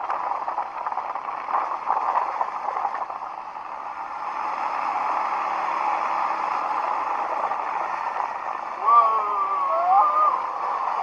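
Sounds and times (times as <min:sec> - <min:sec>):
atv engine running under throttle: 0:00.0 - 0:11.0.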